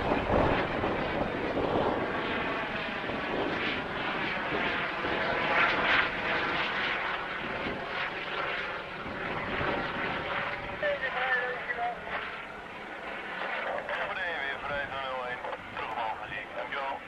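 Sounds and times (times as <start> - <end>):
faint turbine whine: 0.0 - 17.0
helicopter flying past: 0.0 - 17.0.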